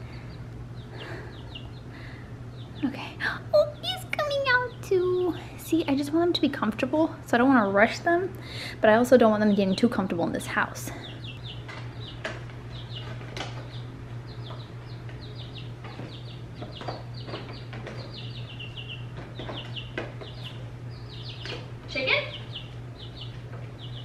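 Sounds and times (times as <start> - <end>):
chicks peeping: 0.0 - 6.6, 8.4 - 24.0.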